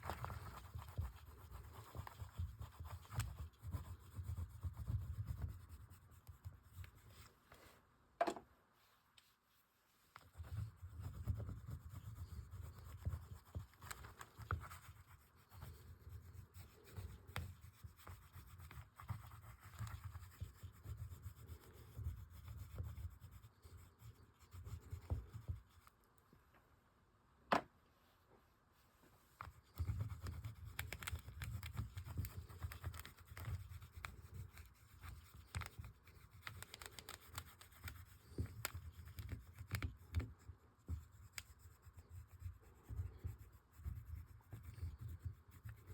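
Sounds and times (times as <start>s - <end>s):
oil pastels scratching on paper: 0.0s - 7.7s, 10.1s - 26.0s, 29.3s - 45.9s.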